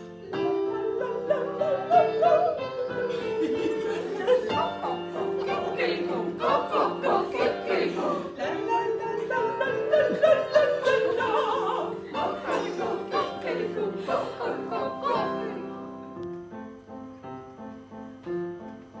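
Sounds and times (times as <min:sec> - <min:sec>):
waltz music on classical instruments: 0:00.0 - 0:19.0.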